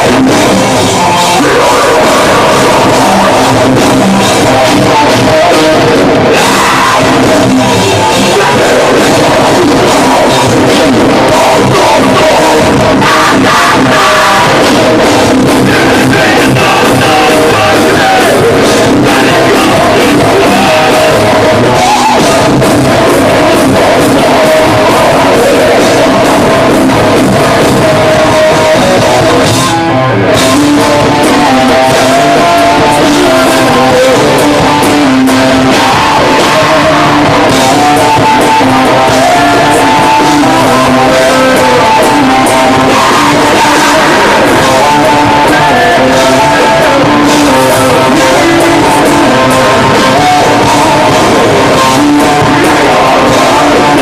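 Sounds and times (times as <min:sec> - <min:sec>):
heavy metal band playing live: 0:00.0 - 0:54.0.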